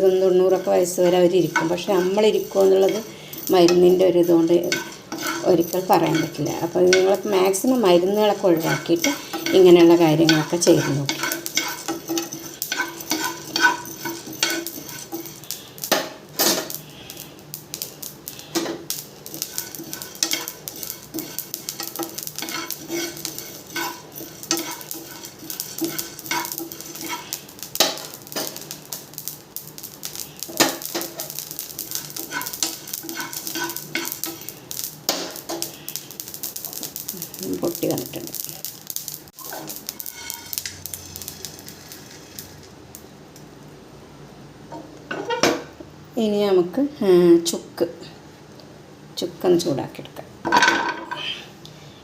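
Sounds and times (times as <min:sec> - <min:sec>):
spoon scraping a pan: 0:00.0 - 0:42.6
seeds crackling: 0:00.0 - 0:43.1.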